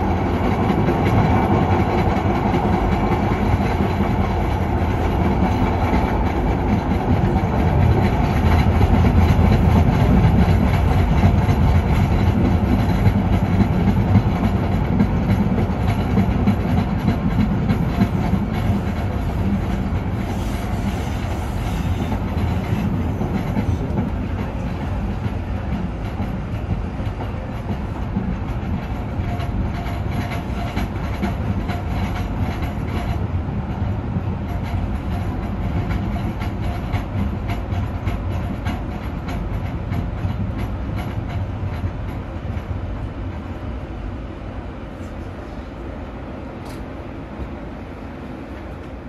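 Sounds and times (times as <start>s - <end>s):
light-rail train rumbling: 0.0s - 49.0s
rail clicks: 0.0s - 49.0s.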